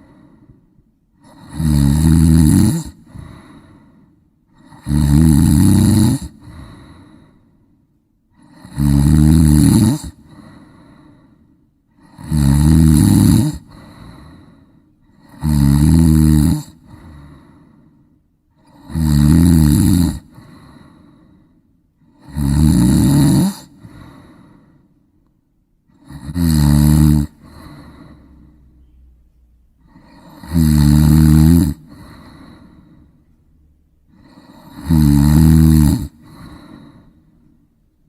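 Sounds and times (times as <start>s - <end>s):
person snoring: 0.0s - 0.6s, 1.2s - 7.6s, 8.3s - 24.9s, 25.8s - 28.9s, 29.8s - 33.4s, 34.1s - 37.6s.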